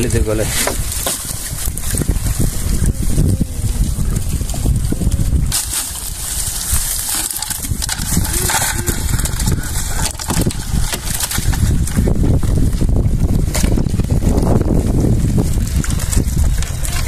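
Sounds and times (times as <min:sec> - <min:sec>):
crab trap net rustling: 0:00.0 - 0:17.0
wind rumble on microphone: 0:00.0 - 0:17.0.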